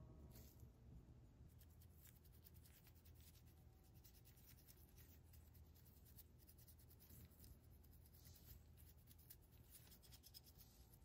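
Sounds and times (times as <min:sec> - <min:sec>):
low steady hum: 0:00.0 - 0:11.0
paintbrush strokes on plastic: 0:00.2 - 0:00.8, 0:01.4 - 0:11.0.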